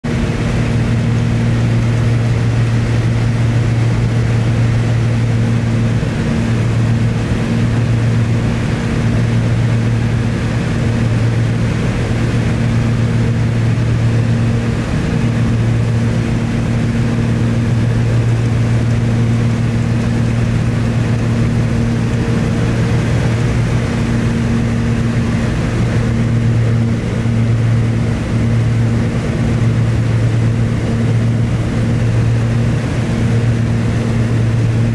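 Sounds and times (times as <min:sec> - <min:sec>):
aircraft engines droning: 0:00.0 - 0:34.9.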